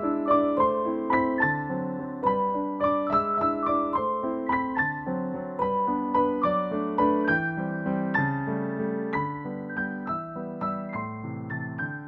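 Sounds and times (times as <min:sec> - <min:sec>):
calm piano music: 0:00.0 - 0:12.0.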